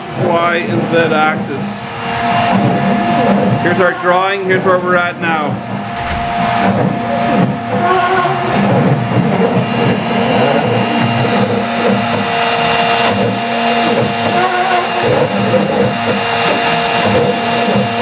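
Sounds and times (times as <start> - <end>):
router spindle carving wood: 1.3 - 18.0.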